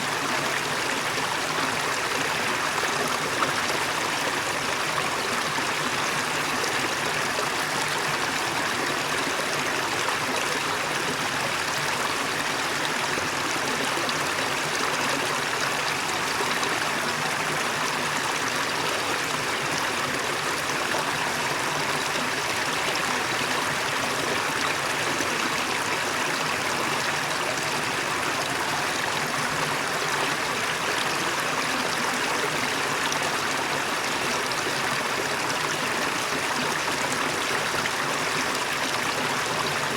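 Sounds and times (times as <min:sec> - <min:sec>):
waterfall rushing water: 0:00.0 - 0:39.9.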